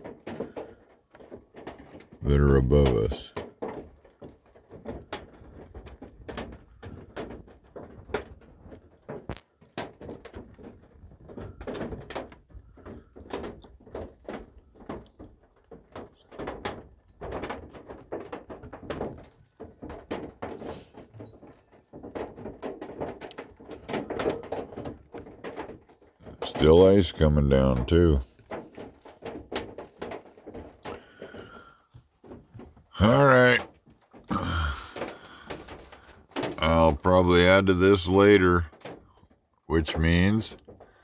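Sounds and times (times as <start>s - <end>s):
hail and rain on vehicle roof: 0.0s - 41.0s.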